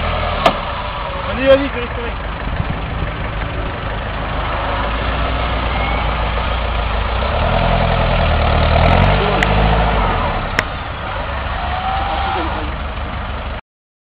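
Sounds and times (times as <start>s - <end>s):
engine idling and revving: 0.0s - 13.6s.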